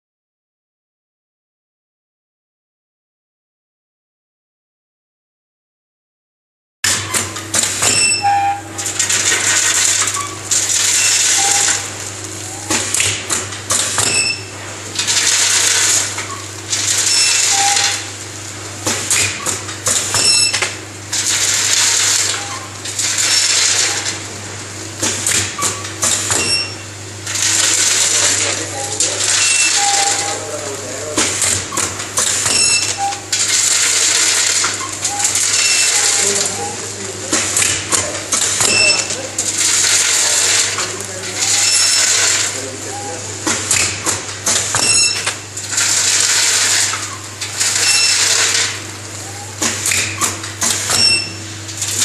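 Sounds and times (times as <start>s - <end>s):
machine motor hum: 6.9s - 52.0s.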